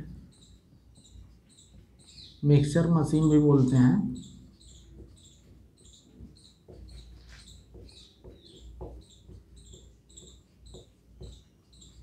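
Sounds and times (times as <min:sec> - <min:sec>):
marker writing on a whiteboard: 0:00.0 - 0:02.3, 0:03.2 - 0:12.0
high repeating chirp: 0:00.0 - 0:12.0.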